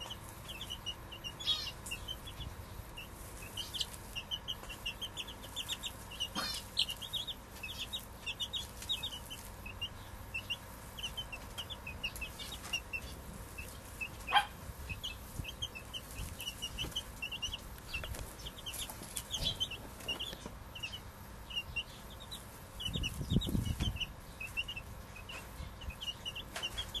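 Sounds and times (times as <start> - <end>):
chicks peeping: 0.0 - 27.0
hen clucking: 0.0 - 27.0.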